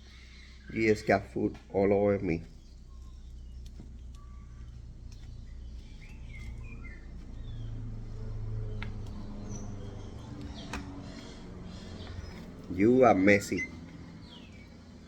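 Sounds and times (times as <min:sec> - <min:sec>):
low hum: 0:00.0 - 0:15.0
parrot chicks chirping: 0:00.0 - 0:15.0.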